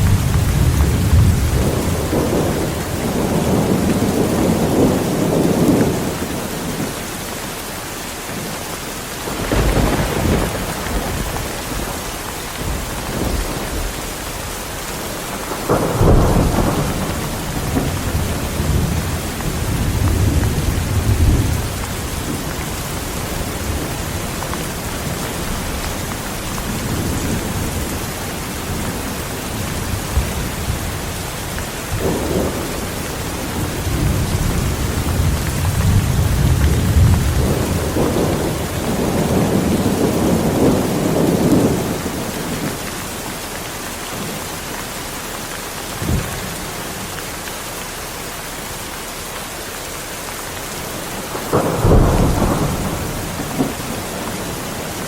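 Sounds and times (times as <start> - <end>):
thunder rumbling and cracking: 0.0 - 7.0, 9.2 - 43.0, 46.0 - 47.0, 50.9 - 55.0
heavy rain falling: 0.0 - 55.0.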